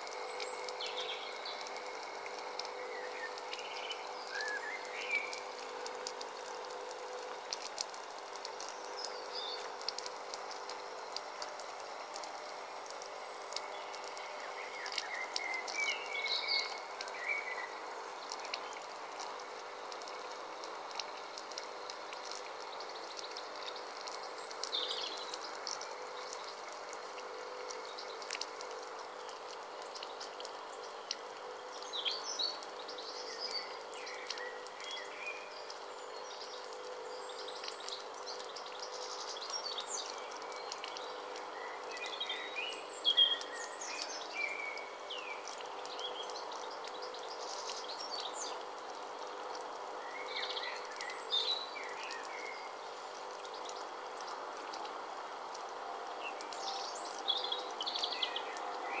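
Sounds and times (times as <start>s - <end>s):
songbirds singing: 0.0s - 59.0s
water trickling over pebbles: 0.0s - 59.0s.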